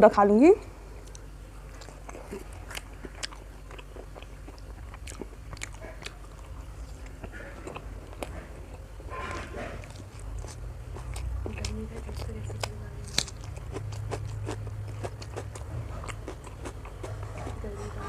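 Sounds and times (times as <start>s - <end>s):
person chewing crunchy food: 0.9s - 17.7s.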